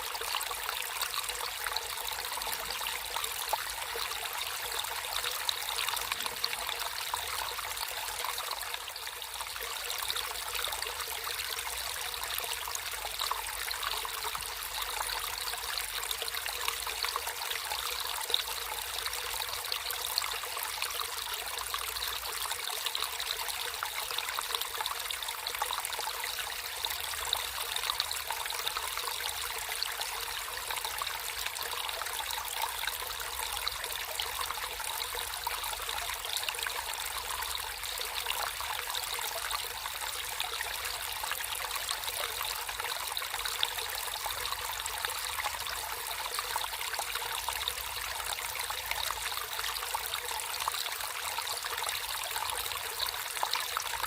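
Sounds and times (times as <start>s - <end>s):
water trickling in a stream: 0.0s - 54.0s.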